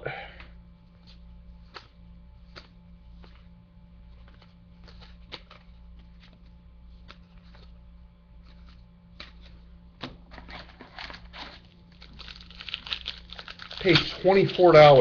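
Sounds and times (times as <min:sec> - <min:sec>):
cards flicking and rustling: 0:00.9 - 0:15.0.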